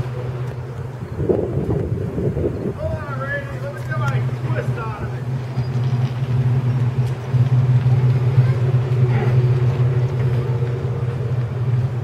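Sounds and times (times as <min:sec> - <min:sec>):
diesel engine low drone: 0:00.0 - 0:12.0.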